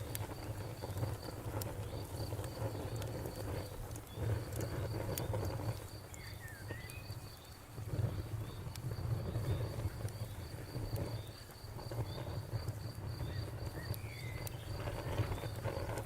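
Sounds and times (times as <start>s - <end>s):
campfire crackling and popping: 0.0s - 16.0s
crickets chirping: 0.2s - 16.0s.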